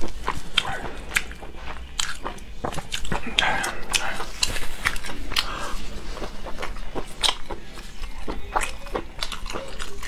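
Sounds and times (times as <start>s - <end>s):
chewing crunches and mouth clicks: 0.0s - 10.0s.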